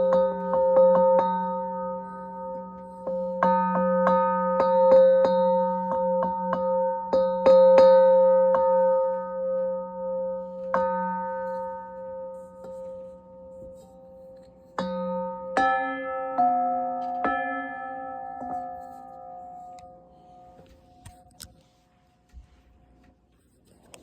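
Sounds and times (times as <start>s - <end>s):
metal bowls struck and ringing: 0.0s - 21.5s.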